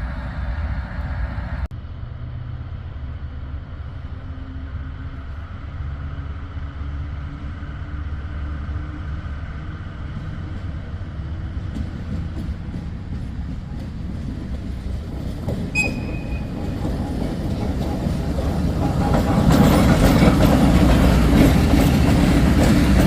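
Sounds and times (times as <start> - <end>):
locomotive running: 0.0 - 23.0.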